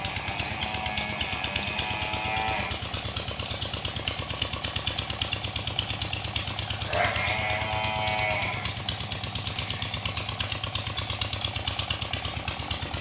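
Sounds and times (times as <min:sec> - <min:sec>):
engine chugging: 0:00.0 - 0:13.0.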